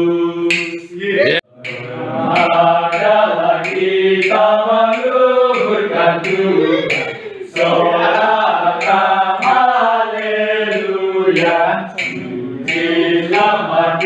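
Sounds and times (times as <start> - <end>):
men singing a hymn: 0.0 - 14.0.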